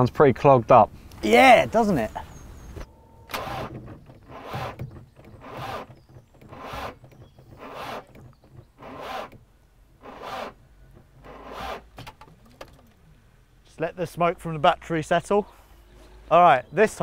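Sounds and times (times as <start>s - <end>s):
car engine labouring with harsh rasp: 2.6s - 17.0s.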